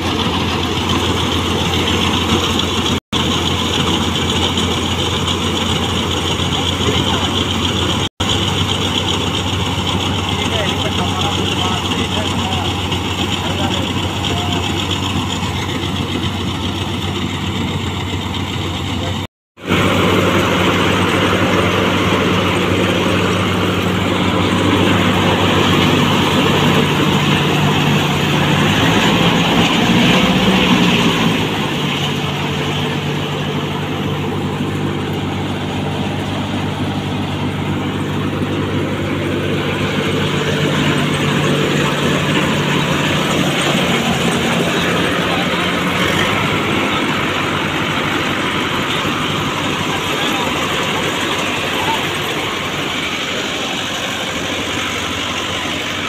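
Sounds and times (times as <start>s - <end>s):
threshing machine running: 0.0s - 56.0s
tractor diesel engine under load: 0.0s - 56.0s.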